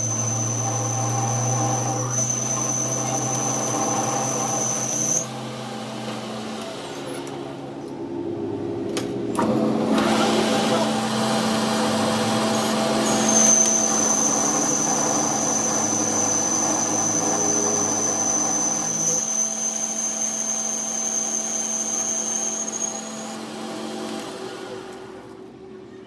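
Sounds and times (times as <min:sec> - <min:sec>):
machine high whine: 0:00.0 - 0:25.6.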